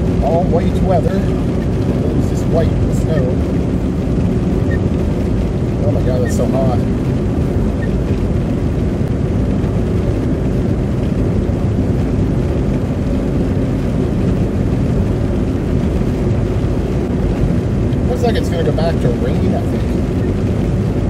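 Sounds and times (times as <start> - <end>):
car engine: 0.0 - 21.0.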